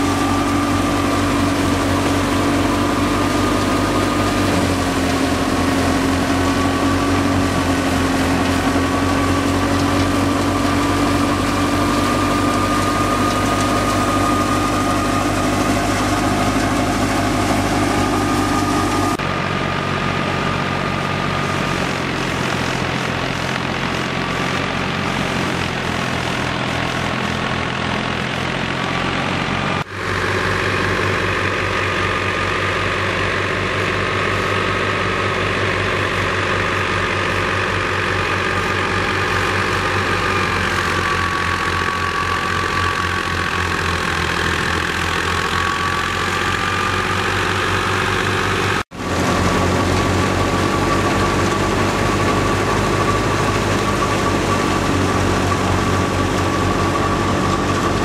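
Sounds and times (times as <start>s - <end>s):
thresher running: 0.0s - 58.0s
tractor engine: 0.0s - 58.0s.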